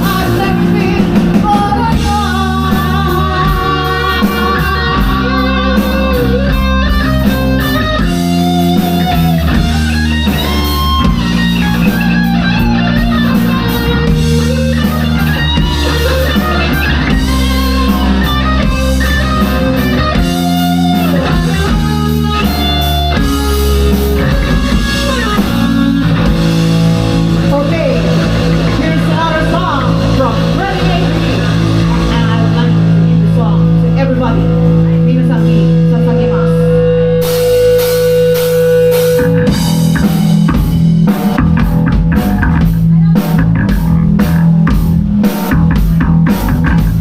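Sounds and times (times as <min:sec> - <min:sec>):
bass guitar: 0:00.0 - 0:47.0
drums: 0:00.0 - 0:47.0
electric guitar melody: 0:00.0 - 0:47.0.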